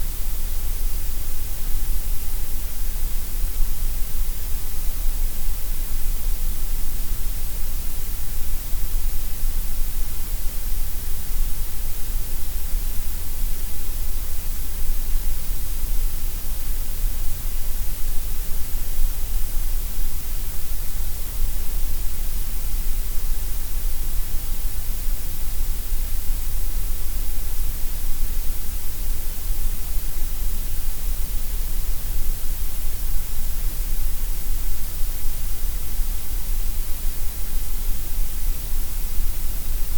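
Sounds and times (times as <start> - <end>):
gray noise hiss: 0.0 - 39.9.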